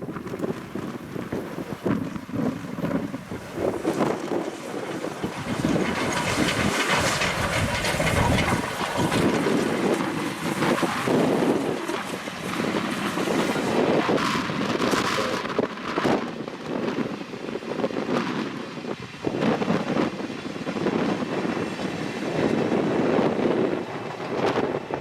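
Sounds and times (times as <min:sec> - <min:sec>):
steam train passing: 0:00.0 - 0:25.0
wind buffeting microphone: 0:00.0 - 0:25.0.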